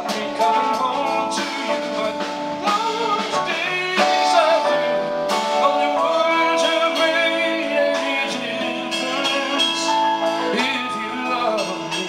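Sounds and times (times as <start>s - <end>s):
man singing: 0.0s - 12.0s
rock band playing: 0.0s - 12.0s.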